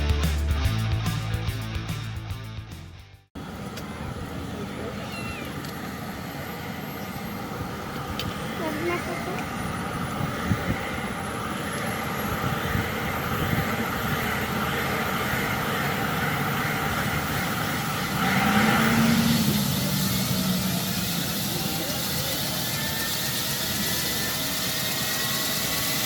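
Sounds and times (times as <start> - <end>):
helicopter turbine drone: 3.4 - 26.0.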